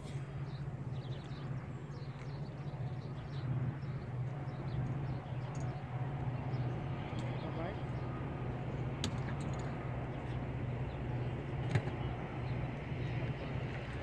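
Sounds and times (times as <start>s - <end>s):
low hum: 0.0s - 14.0s
small birds chirping: 0.0s - 14.0s.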